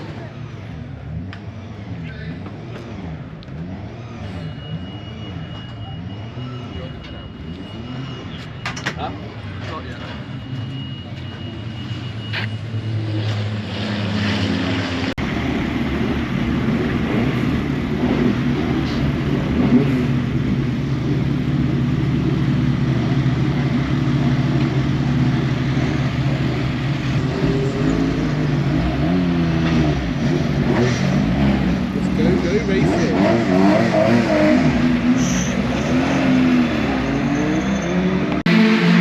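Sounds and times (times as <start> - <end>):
racing truck engines revving: 0.0 - 39.0.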